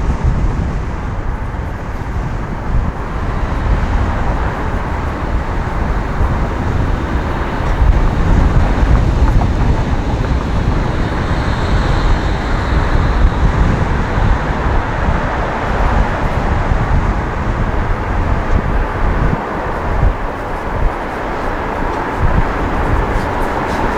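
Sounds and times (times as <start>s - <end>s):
road and traffic noise: 0.0s - 23.9s
wind rumble on microphone: 0.0s - 23.9s.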